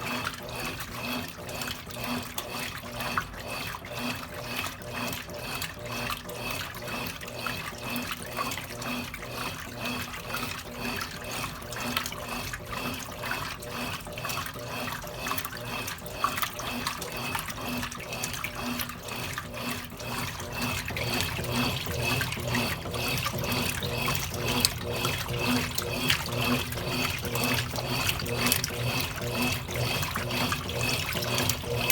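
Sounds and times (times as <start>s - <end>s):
washing machine running: 0.0s - 31.9s.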